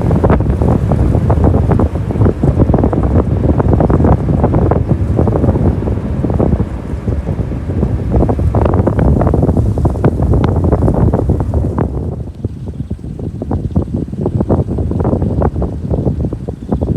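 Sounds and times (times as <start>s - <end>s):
strong wind buffeting microphone: 0.0s - 16.9s.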